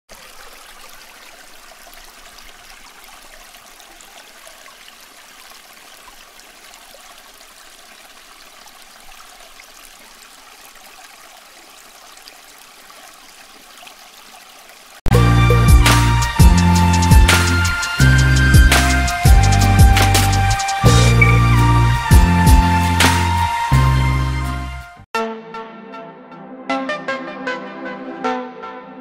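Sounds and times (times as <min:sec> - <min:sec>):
water trickling and splashing: 0:00.1 - 0:23.6.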